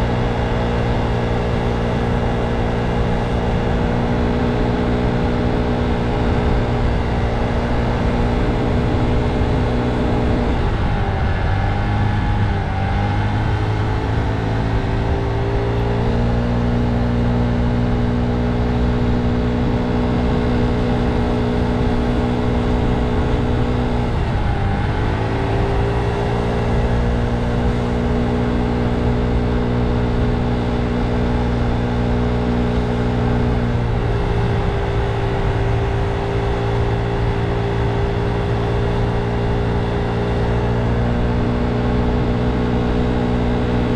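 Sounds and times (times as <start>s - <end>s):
motor scooter engine running: 0.0s - 43.9s
wind and road rumble: 0.0s - 43.9s.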